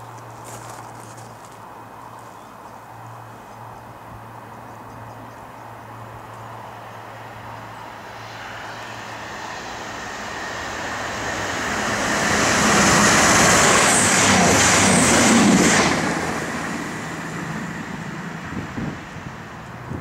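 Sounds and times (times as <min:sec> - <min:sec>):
diesel train passing at speed: 0:00.0 - 0:20.0.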